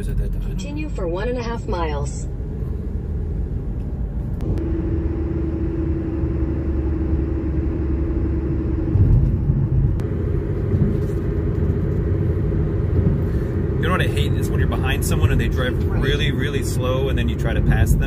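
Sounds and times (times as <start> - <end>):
tyre and engine rumble: 0.0 - 18.0
steady hum: 0.6 - 18.0.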